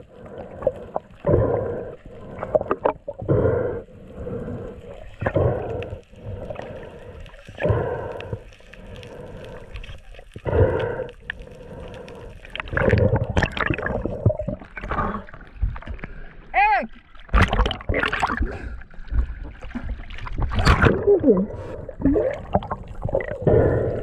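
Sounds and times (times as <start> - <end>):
muffled underwater rushing water: 0.0 - 24.0.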